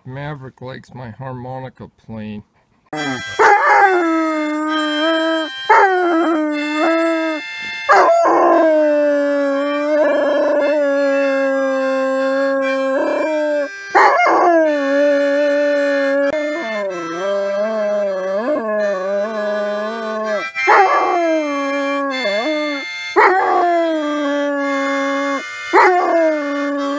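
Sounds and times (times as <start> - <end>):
dog howling: 3.0 - 26.9.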